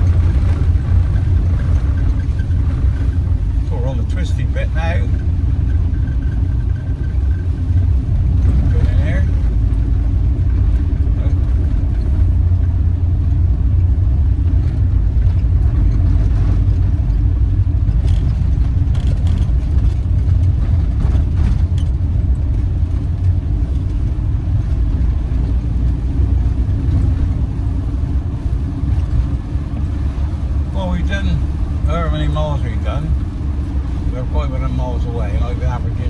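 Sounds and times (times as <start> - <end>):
engine and tyre drone: 0.0 - 36.0.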